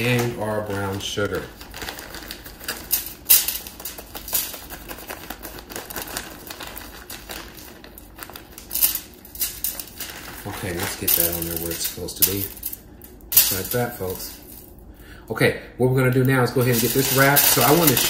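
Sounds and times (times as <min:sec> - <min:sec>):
plastic bag crinkling: 0:00.0 - 0:14.7, 0:16.2 - 0:18.0
sugar falling onto foil: 0:01.9 - 0:14.6, 0:16.2 - 0:18.0.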